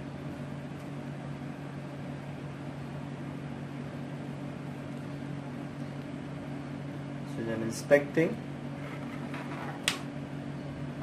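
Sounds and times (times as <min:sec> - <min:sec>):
electrical hum and fan drone: 0:00.0 - 0:11.0.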